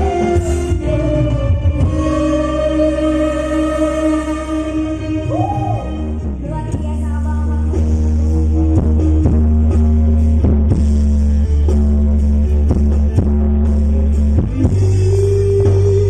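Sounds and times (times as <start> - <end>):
loud music over pa system: 0.0 - 16.0.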